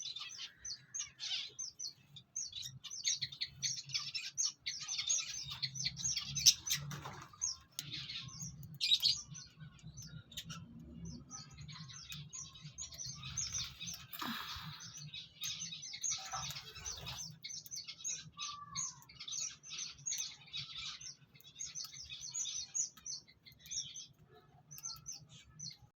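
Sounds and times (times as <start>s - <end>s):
finches chirping: 0.0s - 25.9s.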